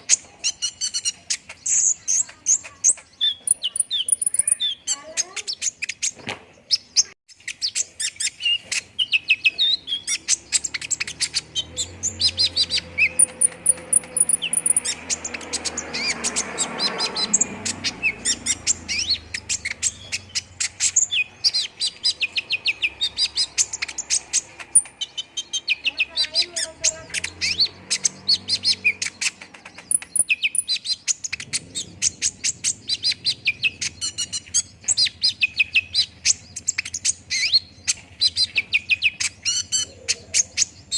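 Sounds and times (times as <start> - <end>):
sunbird chirping and trilling: 0.0 - 40.9.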